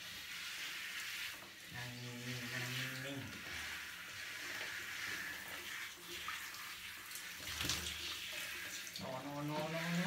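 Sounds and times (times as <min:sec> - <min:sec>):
shower head spraying water: 0:00.0 - 0:10.0
water splashes: 0:00.0 - 0:10.0.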